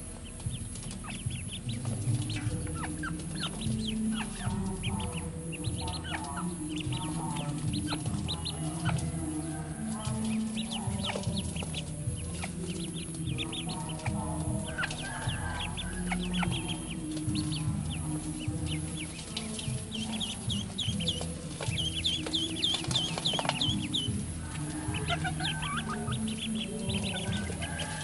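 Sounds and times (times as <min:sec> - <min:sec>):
ducklings peeping: 0:00.0 - 0:28.0.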